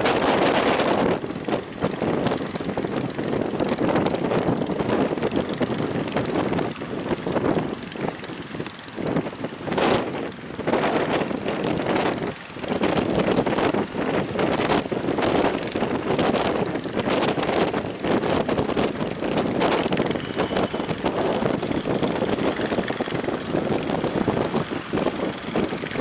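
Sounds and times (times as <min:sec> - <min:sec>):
wind gusting on microphone: 0:00.0 - 0:26.0.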